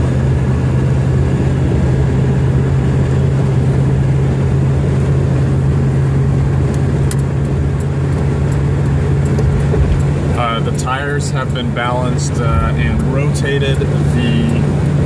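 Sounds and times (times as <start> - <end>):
car interior road drone: 0.0 - 15.0.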